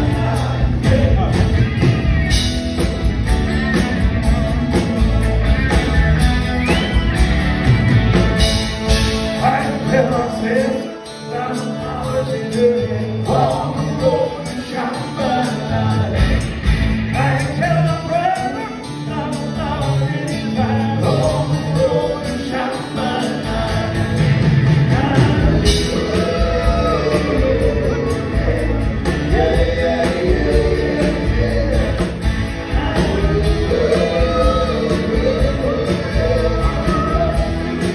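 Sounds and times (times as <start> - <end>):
men singing: 0.0 - 3.1, 8.8 - 37.9
bass guitar: 0.0 - 37.9
drums: 0.0 - 37.9
electric guitars: 0.0 - 37.9.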